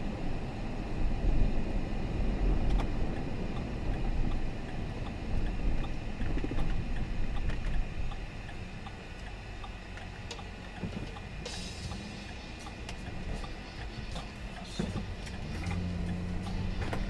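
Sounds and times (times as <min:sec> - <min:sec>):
car road noise from inside: 0:00.0 - 0:17.0.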